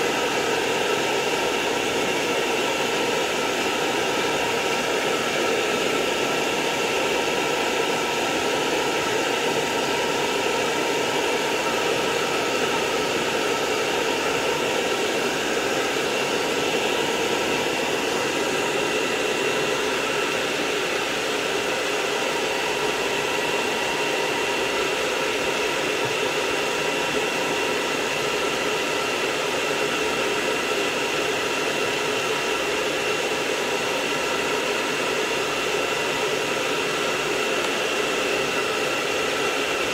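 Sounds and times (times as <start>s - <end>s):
blow dryer running: 0.0s - 39.9s.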